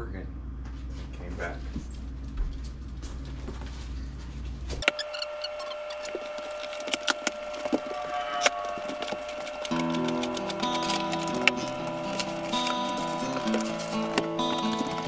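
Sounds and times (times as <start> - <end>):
steady high hum: 0.0 - 15.0
low hum: 1.8 - 15.0.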